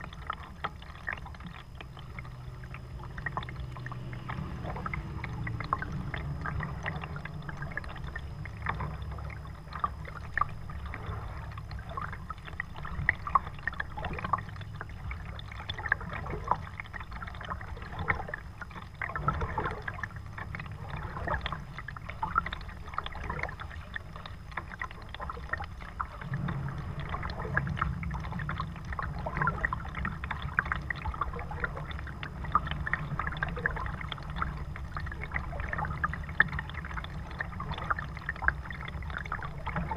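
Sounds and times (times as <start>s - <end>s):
low rumble: 0.0s - 39.9s
water dripping off paddle: 0.0s - 39.9s
water splashing by hull: 0.0s - 39.9s.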